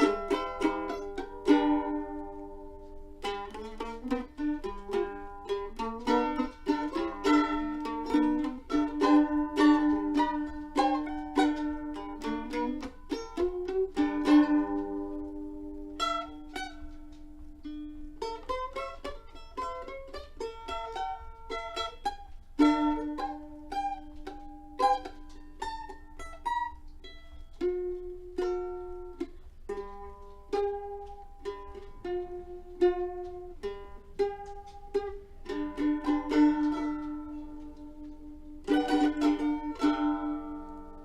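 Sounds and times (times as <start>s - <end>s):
plucked string instrument melody: 0.0s - 41.0s.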